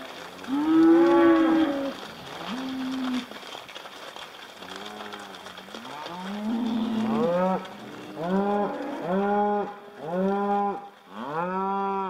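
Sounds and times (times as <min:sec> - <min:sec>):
cattle mooing: 0:00.1 - 0:03.3, 0:04.7 - 0:12.0.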